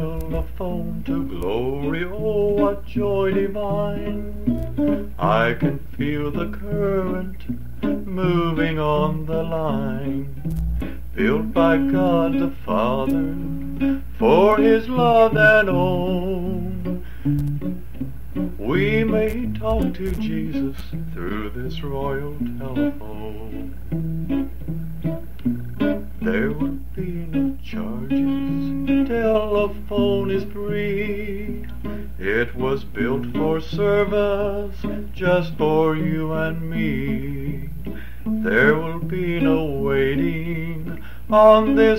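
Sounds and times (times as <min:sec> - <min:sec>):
man singing: 0:00.0 - 0:10.4, 0:11.1 - 0:17.0, 0:18.4 - 0:23.8, 0:26.2 - 0:41.9
acoustic guitar: 0:00.0 - 0:41.9
steady low hum: 0:00.0 - 0:41.9.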